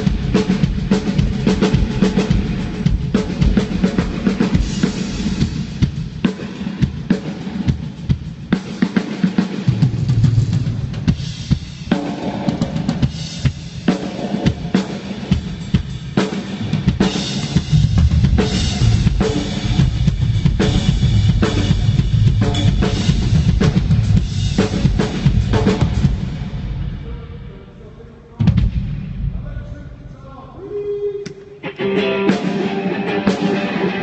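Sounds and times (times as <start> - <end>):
rock drum kit beat: 0.0 - 27.1, 31.3 - 34.0.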